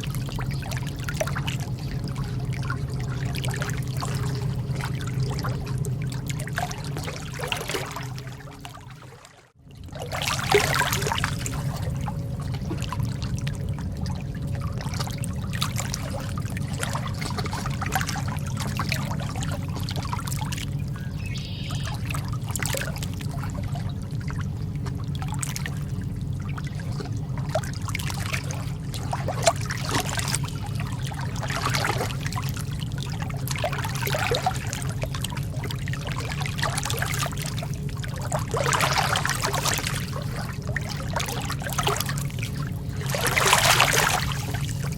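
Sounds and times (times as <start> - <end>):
lake water lapping: 0.0 - 44.9
steady low rumble: 0.0 - 44.9.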